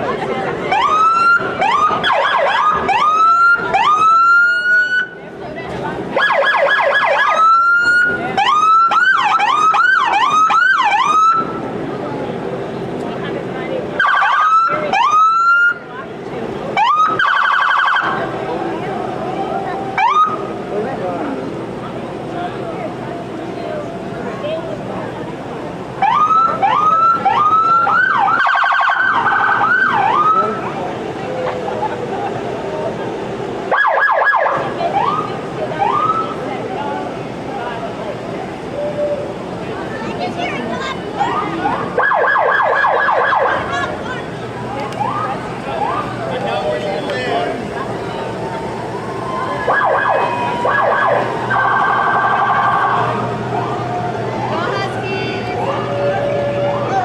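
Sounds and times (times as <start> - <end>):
emergency vehicle siren: 0.5 - 5.4, 6.1 - 11.8, 13.9 - 24.6, 25.4 - 39.6, 40.8 - 57.0.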